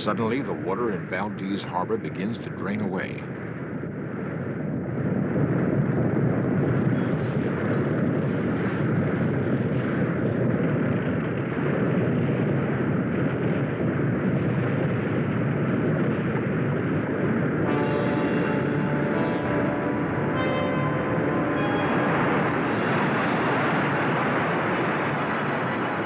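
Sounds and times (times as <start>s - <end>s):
earthquake roaring rumble: 0.0s - 26.0s.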